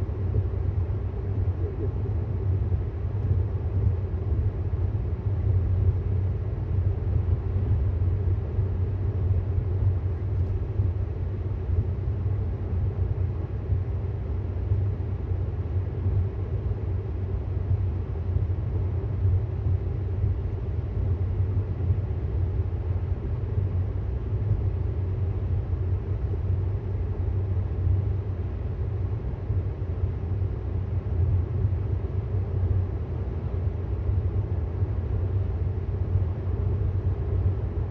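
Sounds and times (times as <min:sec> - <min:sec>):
road and tyre rumble in car: 0:00.0 - 0:37.9.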